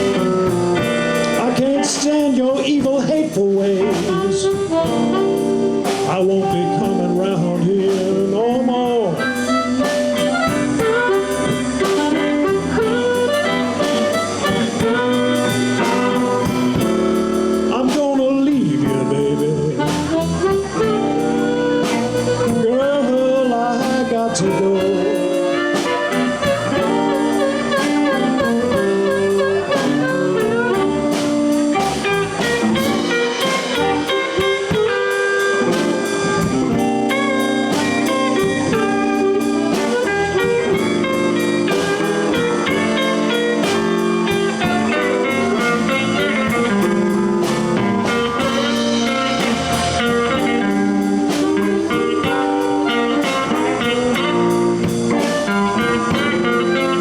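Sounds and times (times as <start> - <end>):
bass guitar: 0.0 - 57.0
drum kit shuffle: 0.0 - 57.0
electric guitar: 0.0 - 57.0.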